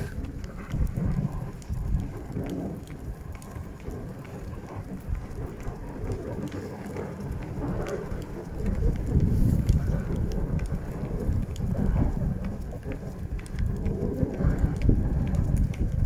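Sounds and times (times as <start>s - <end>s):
hooves crunching snow: 0.0s - 16.0s
sleigh runners rumbling on snow: 0.0s - 16.0s.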